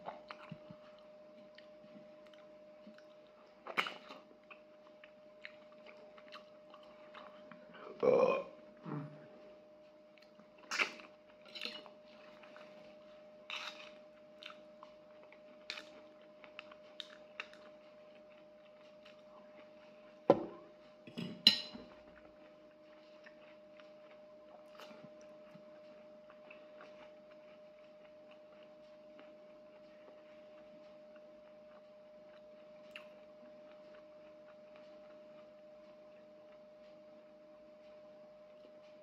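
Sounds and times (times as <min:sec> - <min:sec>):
chewing and eating: 0:00.0 - 0:39.0
faint steady hum: 0:00.0 - 0:39.0.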